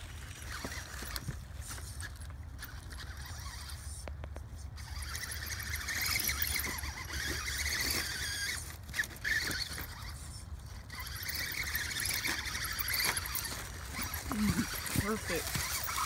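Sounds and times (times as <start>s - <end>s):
rc car motor whine: 0.0s - 16.0s.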